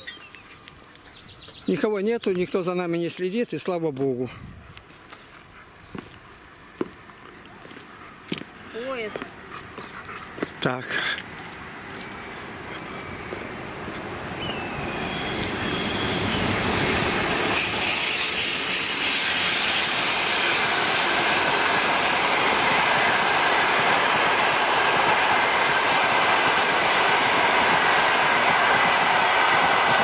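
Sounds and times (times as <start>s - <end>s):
train wheels on rails: 5.9s - 30.0s.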